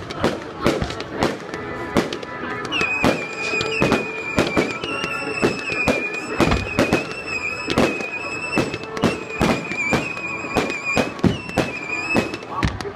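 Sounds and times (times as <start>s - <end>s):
fireworks bangs and crackle: 0.0s - 12.9s.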